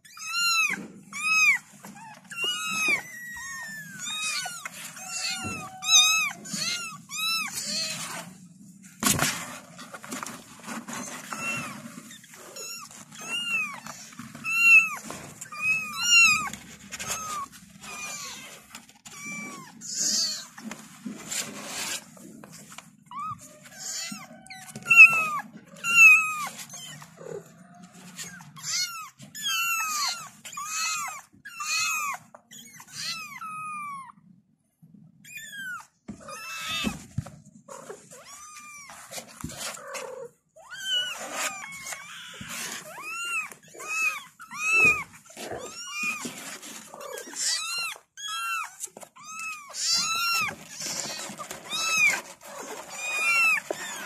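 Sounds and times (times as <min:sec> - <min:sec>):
kittens meowing: 0:00.0 - 0:08.5, 0:10.8 - 0:20.8, 0:22.9 - 0:34.3, 0:35.2 - 0:54.0
rustling noise: 0:00.2 - 0:31.3, 0:36.1 - 0:54.0.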